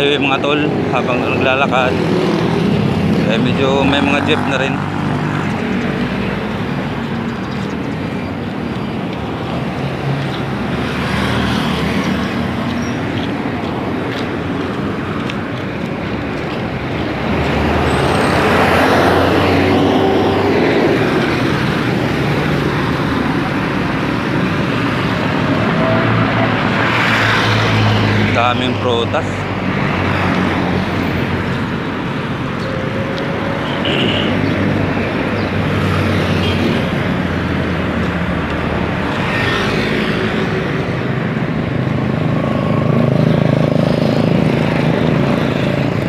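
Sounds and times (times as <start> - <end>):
highway traffic passing: 0.0 - 46.0.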